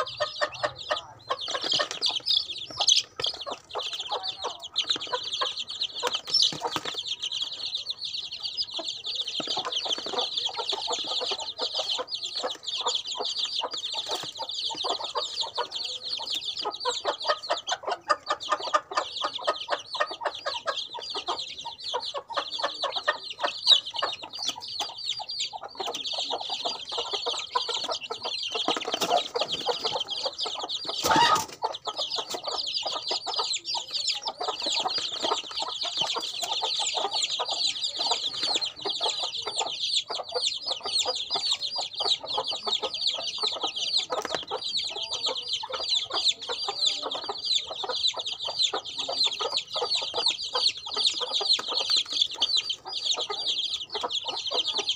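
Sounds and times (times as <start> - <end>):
chicks peeping: 0.0 - 54.9
clucking: 0.0 - 54.9.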